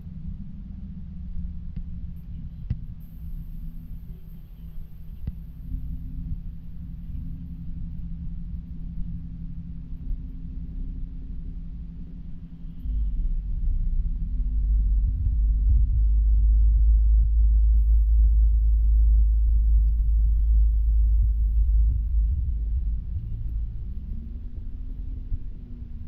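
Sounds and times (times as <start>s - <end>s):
deep rumble: 0.0s - 26.0s.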